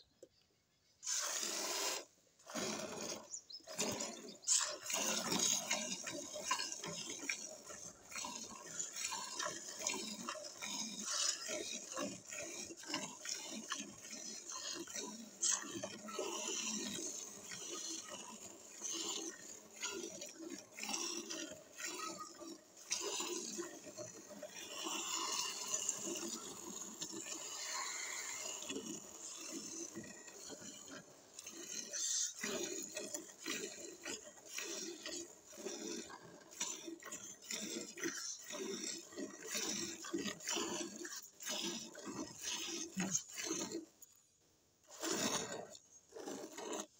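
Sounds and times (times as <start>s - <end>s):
milk squirting into steel bucket: 1.0s - 44.2s, 44.8s - 46.9s.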